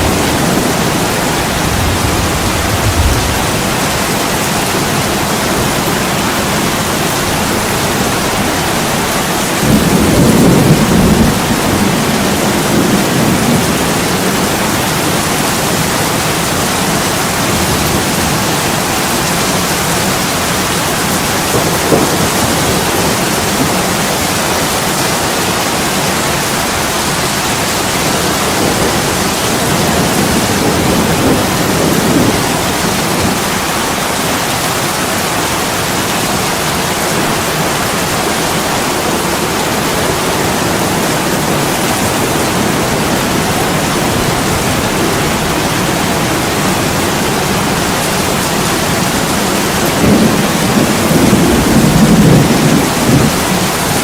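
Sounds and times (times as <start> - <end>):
heavy rain against a window: 0.0 - 54.0.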